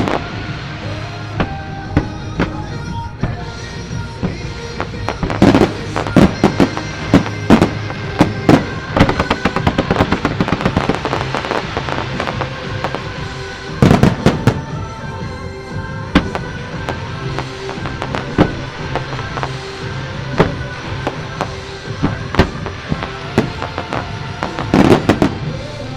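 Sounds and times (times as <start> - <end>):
fireworks bursting with sharp bangs: 0.0 - 25.9
show music: 0.0 - 25.9.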